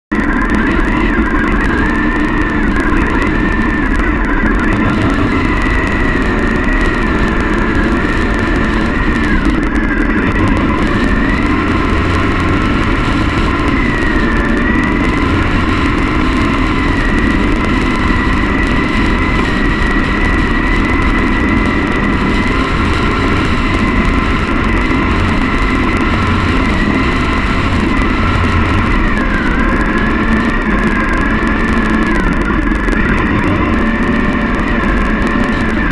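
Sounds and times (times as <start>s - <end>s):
motorcycle engine cruising: 2.5s - 35.9s.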